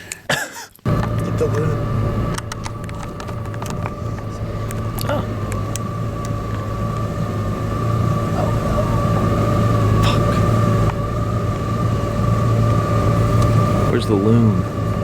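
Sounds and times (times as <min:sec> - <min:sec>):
boat motor running: 0:00.8 - 0:15.0.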